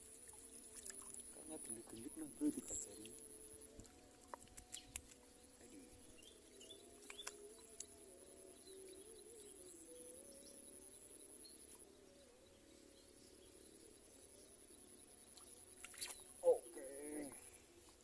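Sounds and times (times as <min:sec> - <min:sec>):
low wavering drone: 0:00.0 - 0:18.0.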